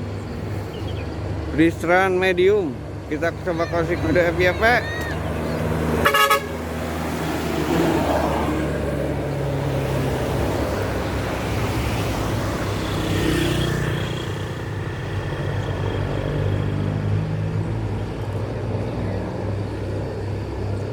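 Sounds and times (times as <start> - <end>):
bus engine running: 0.0 - 20.9
road traffic noise: 0.0 - 20.9.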